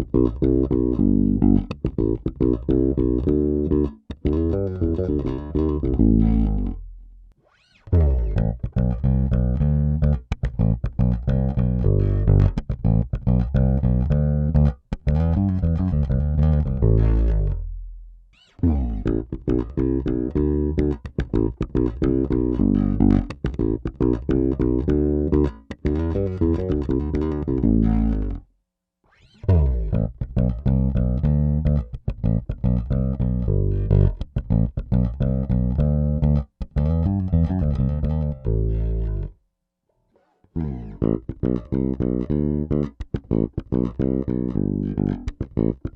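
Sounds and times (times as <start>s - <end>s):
electric bass played fingerstyle: 0.0s - 28.4s, 29.1s - 39.4s, 40.2s - 45.9s.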